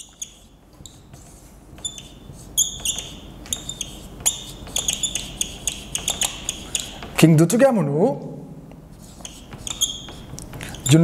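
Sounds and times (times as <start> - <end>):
marker squeaking on whiteboard: 0.0 - 7.2, 8.9 - 11.0.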